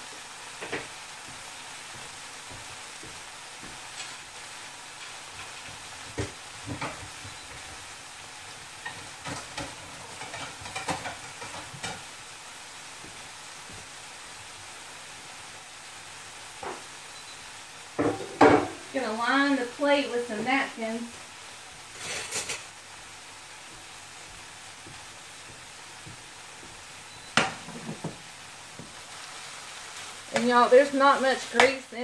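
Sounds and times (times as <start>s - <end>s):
sausage and onions sizzling in a pan: 0.0s - 32.0s.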